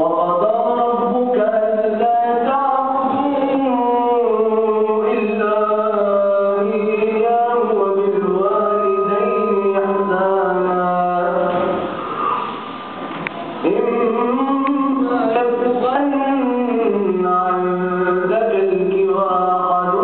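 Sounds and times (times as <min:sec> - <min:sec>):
man reciting melodically: 0:00.0 - 0:11.9, 0:13.6 - 0:20.0.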